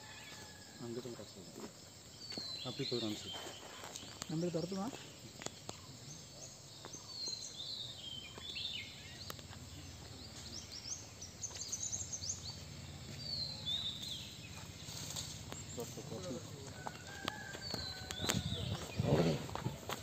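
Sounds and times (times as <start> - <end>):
birds chirping and whistling: 2.2 - 4.9, 5.6 - 20.0.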